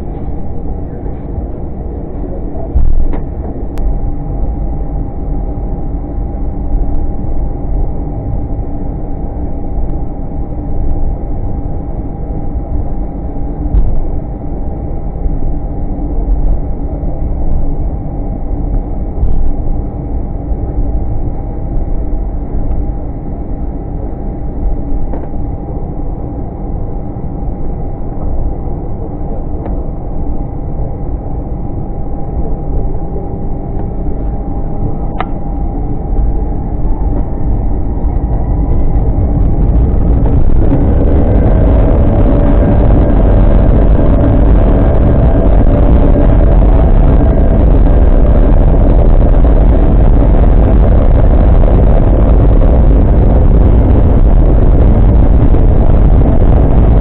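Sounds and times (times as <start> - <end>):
airplane cabin drone: 0.0 - 57.0
faint steady tones: 0.0 - 57.0.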